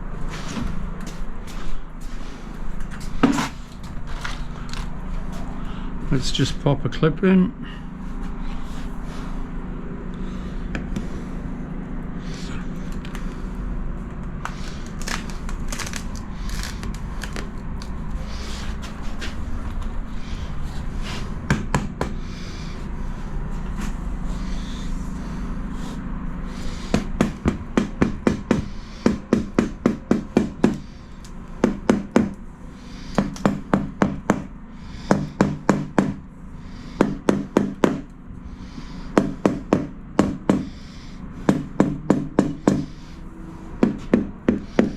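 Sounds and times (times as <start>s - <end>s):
steady background noise: 0.0s - 44.9s.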